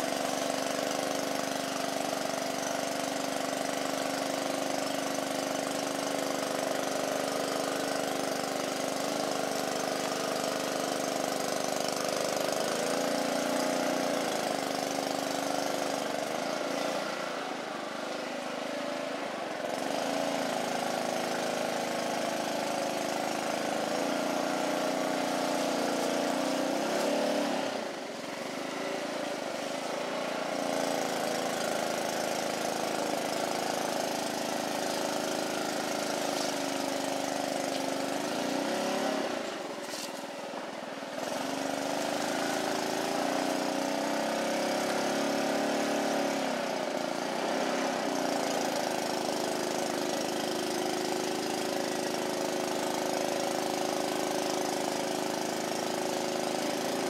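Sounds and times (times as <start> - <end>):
small boat motor running: 0.0 - 57.0.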